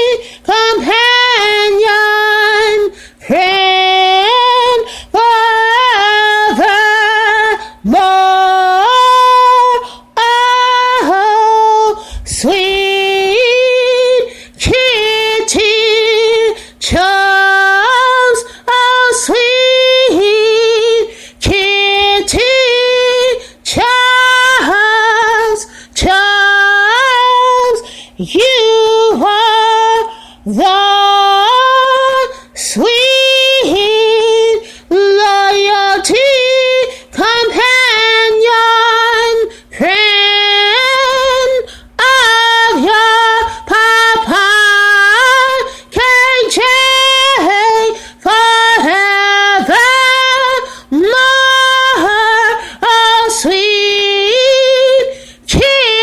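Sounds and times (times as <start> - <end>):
woman singing a cappella: 0.0 - 56.0.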